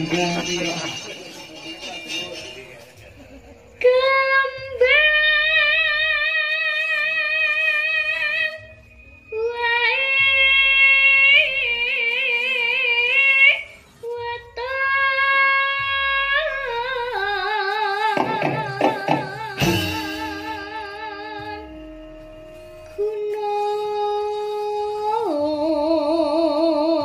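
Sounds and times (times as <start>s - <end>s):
girl singing through microphone: 3.8s - 27.0s.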